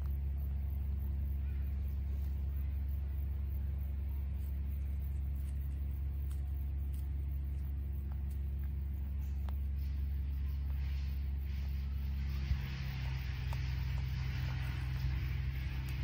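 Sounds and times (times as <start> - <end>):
motor running: 0.0 - 16.0.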